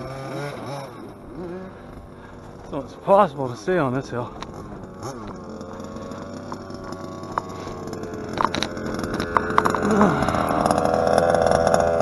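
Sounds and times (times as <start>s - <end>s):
two-stroke engine running: 0.0s - 12.0s.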